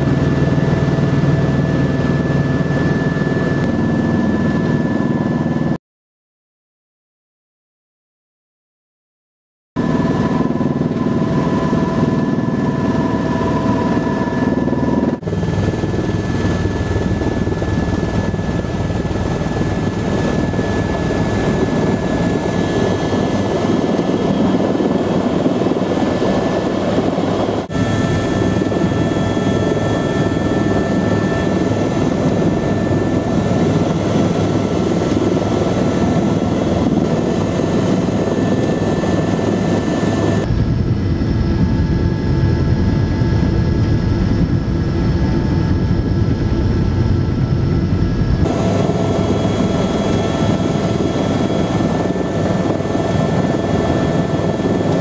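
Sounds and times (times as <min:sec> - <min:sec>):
helicopter engine and rotor: 0:00.0 - 0:05.8, 0:09.8 - 0:55.0.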